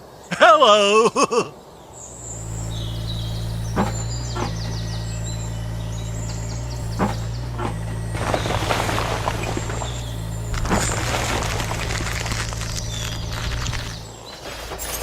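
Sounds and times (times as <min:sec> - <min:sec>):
birds chirping: 0:01.6 - 0:14.5
small engine running: 0:02.0 - 0:14.2.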